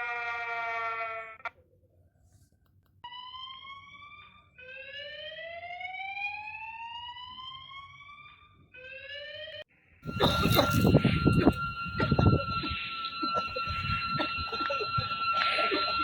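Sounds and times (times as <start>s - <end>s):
warning siren rising sweeps: 3.1s - 16.0s.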